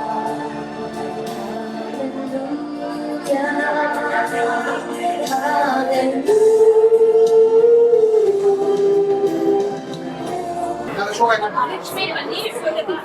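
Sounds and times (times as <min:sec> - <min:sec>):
choir-like singing music: 0:00.0 - 0:11.6.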